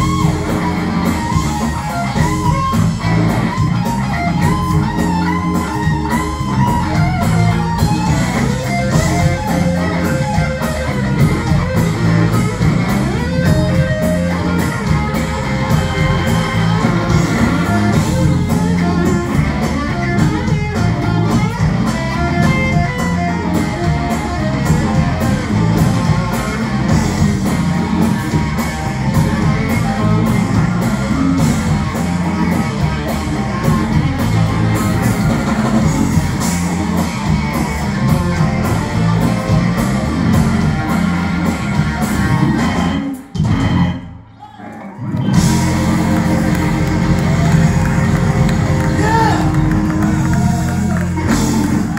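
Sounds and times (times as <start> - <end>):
blues-rock band playing: 0.0 - 51.9.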